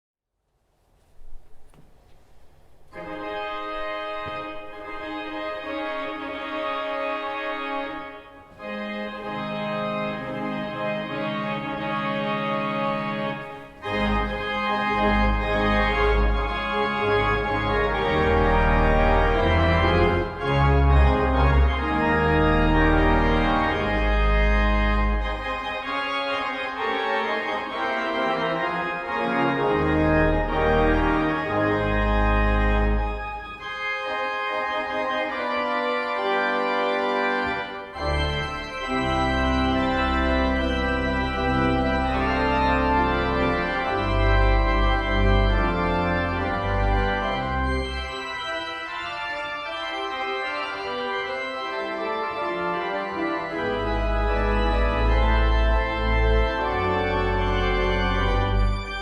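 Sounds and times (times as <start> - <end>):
organ playing sustained chords: 2.9 - 59.0.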